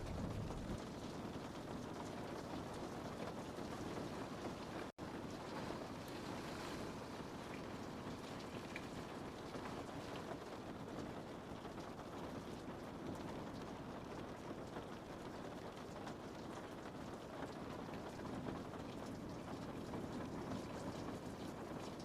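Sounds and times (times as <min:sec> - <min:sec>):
rain on a window: 0:00.0 - 0:22.0.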